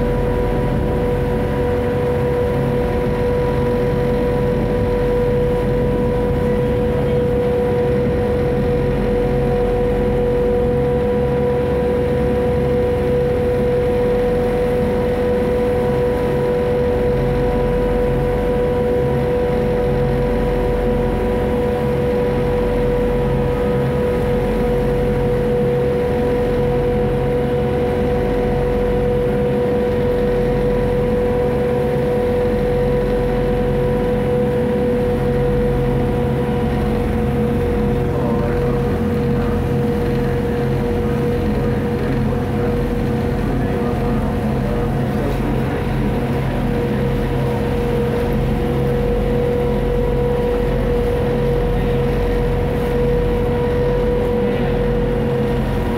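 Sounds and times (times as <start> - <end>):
ferry engine drone: 0.0 - 55.9
steady whine: 0.0 - 55.9.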